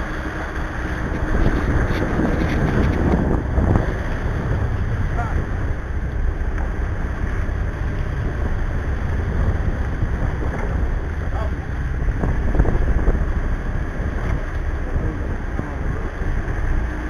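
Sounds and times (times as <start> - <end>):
boat diesel engines rumbling: 0.0 - 17.0
water rushing along hull: 0.0 - 17.0
wind buffeting microphone: 0.0 - 17.0.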